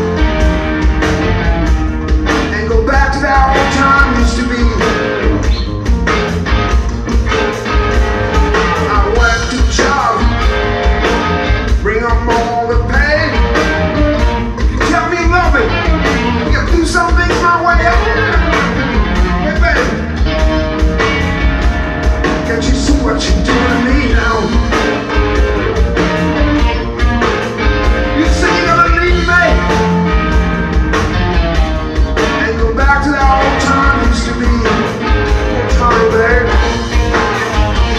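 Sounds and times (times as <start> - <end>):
drum kit steady beat: 0.0 - 37.9
electric bass: 0.0 - 37.9
electric guitar bending notes: 0.0 - 37.9.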